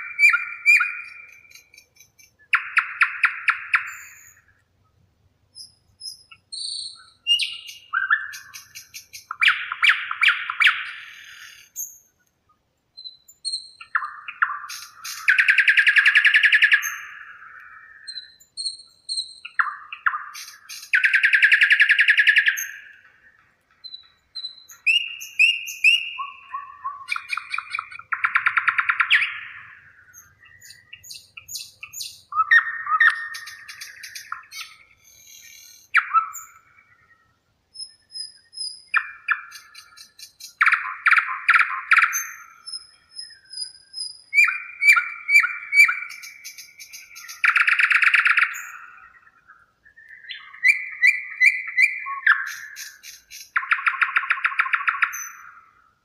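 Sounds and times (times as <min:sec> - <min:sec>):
songbirds trilling and whistling: 0:00.0 - 0:56.0.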